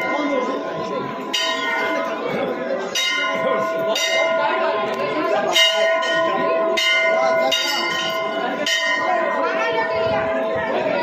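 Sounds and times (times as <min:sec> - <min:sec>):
murmur of voices: 0:00.0 - 0:11.0
temple bell ringing: 0:00.0 - 0:11.0.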